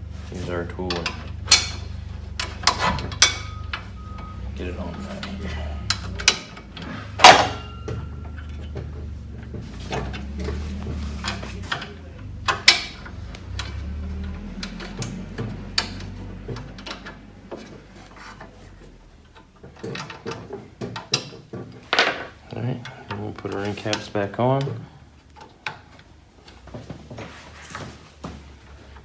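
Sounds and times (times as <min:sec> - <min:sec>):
hand tool clicking and clanking: 0:00.7 - 0:26.7.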